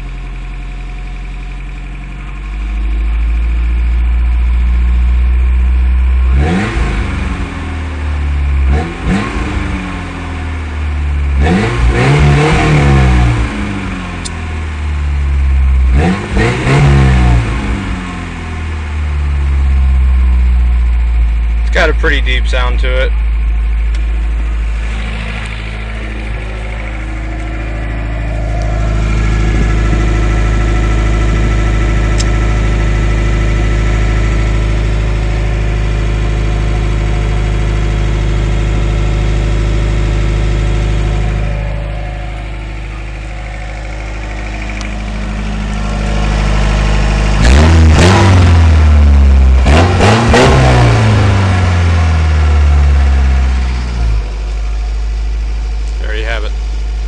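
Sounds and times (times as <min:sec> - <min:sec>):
truck exhaust idling deeply: 0:00.0 - 0:16.5, 0:17.4 - 0:57.0
engine revving: 0:00.0 - 0:57.0.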